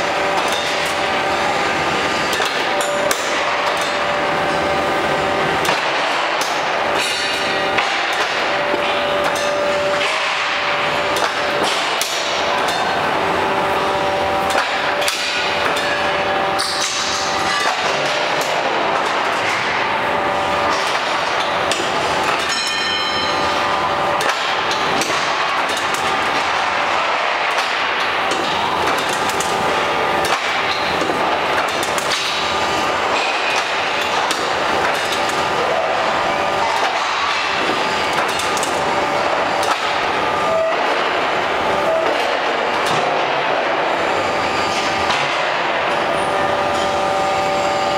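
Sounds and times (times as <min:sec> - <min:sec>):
sharp metallic bangs and clanks: 0:00.0 - 0:47.6
steady machine hum: 0:00.0 - 0:47.9.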